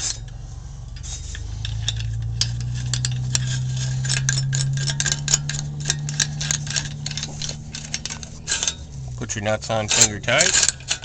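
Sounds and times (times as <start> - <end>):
metal clamp parts clinking: 0.0 - 11.0
steady low hum: 0.0 - 11.0.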